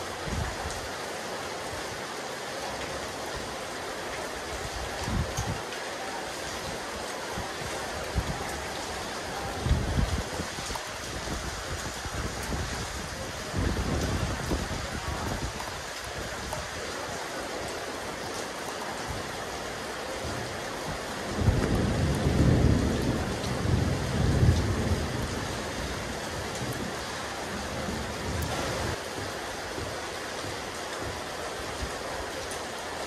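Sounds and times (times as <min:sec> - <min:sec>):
rain falling on a roof: 0:00.0 - 0:33.0.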